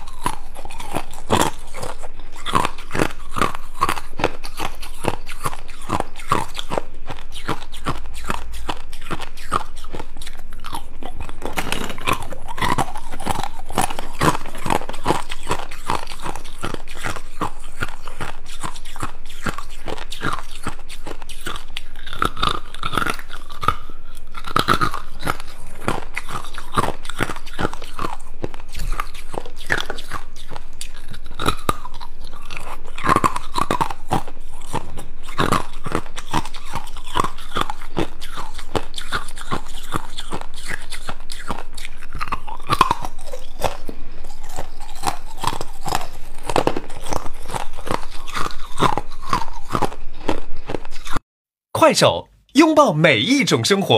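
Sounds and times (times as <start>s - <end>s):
ice cubes crunching being chewed: 0.0s - 51.2s.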